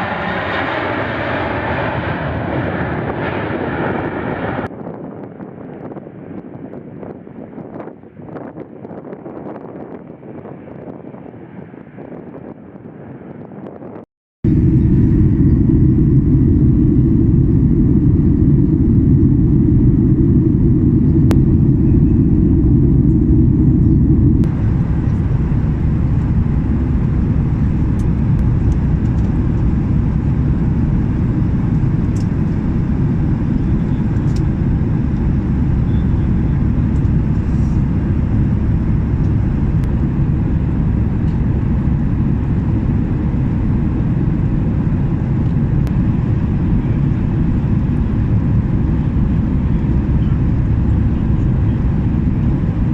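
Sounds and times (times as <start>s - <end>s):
jet engines rumbling in cabin: 0.0s - 52.9s.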